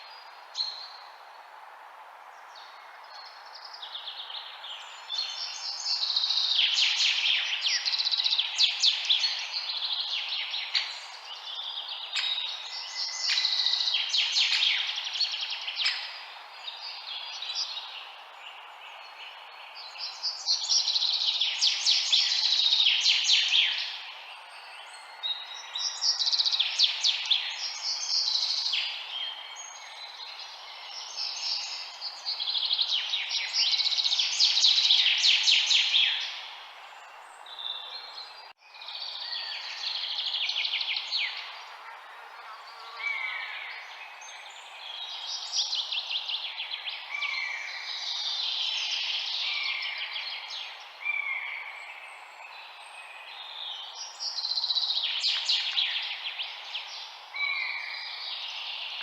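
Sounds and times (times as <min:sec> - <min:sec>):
songbirds singing: 0:00.0 - 0:59.0
steady background hiss: 0:00.0 - 0:59.0.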